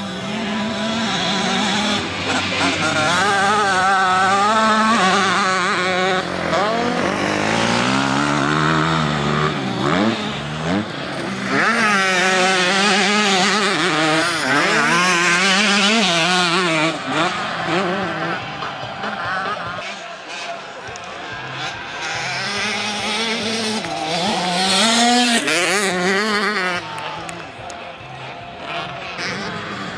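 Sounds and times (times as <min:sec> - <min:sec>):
dirt bike engines revving: 0:00.0 - 0:29.9.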